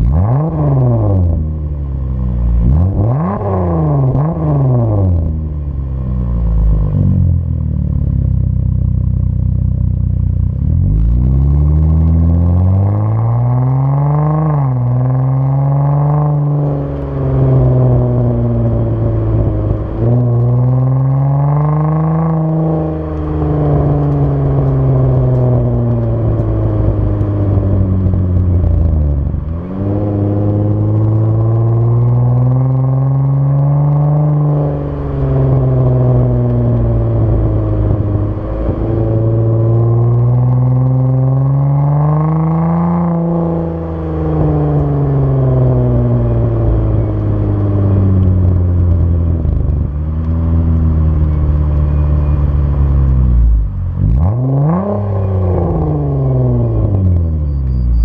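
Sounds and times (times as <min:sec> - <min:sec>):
car exhaust accelerating: 0:00.0 - 0:58.0.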